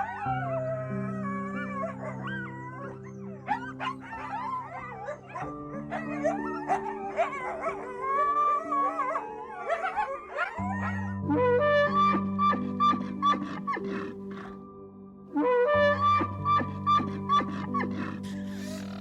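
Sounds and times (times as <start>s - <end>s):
animal cries gliding in pitch: 0.0s - 11.2s, 11.8s - 14.6s, 15.8s - 19.0s
background music with held chords: 0.0s - 19.0s.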